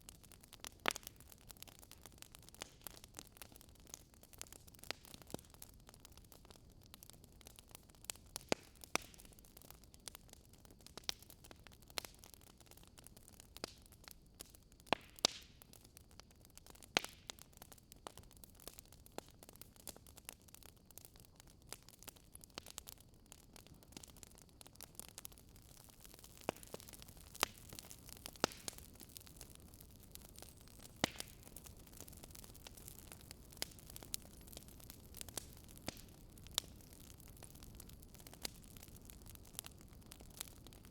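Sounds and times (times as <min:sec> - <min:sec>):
faint steady hiss: 0:00.0 - 0:40.9
wood fire crackling: 0:00.0 - 0:40.9.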